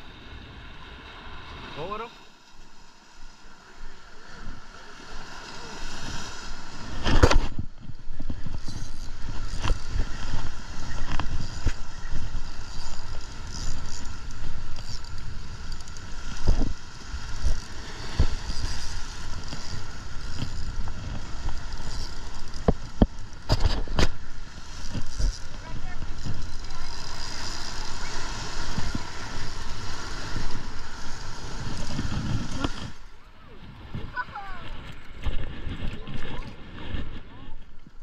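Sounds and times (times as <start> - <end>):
wind rumbling on microphone: 0.0 - 38.0
waves washing against rocks: 0.6 - 13.5, 14.2 - 33.1.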